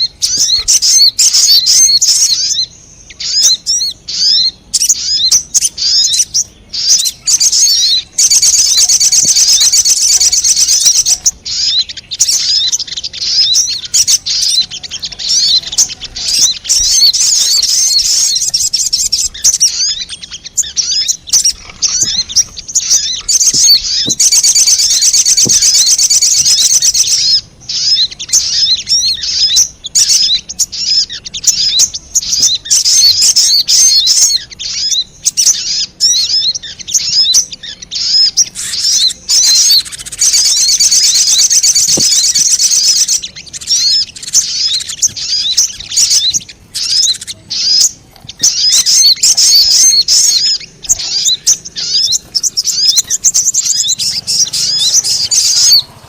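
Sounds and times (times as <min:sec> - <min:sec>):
bird chirps and rattling trills: 0:00.0 - 0:56.0.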